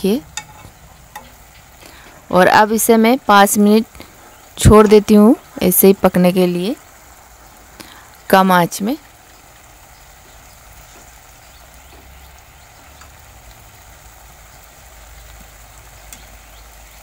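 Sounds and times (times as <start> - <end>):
curry sizzling and bubbling in pan: 0.0 - 17.0.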